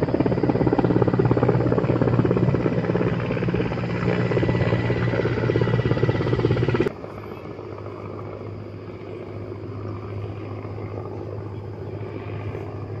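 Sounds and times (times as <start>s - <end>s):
loud fast-pulsing mechanical sound: 0.0s - 13.0s
low motor hum: 0.0s - 13.0s.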